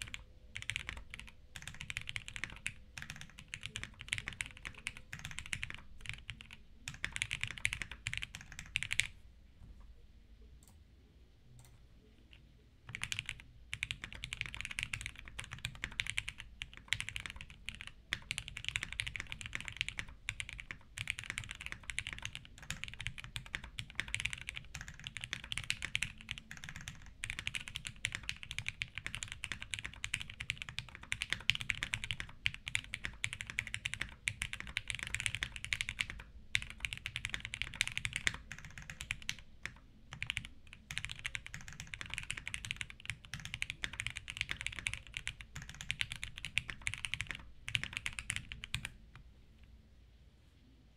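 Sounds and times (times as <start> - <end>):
mechanical keyboard typing: 0.0 - 9.1, 11.6 - 49.2.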